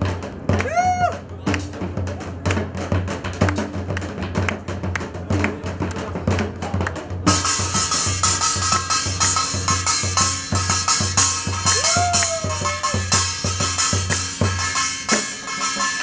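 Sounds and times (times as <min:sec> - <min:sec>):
barrel drum beat: 0:00.0 - 0:16.0.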